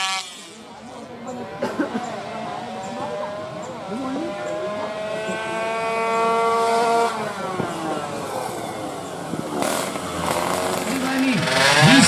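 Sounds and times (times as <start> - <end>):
motorcycle engine revving: 0.0 - 0.9, 1.5 - 12.0.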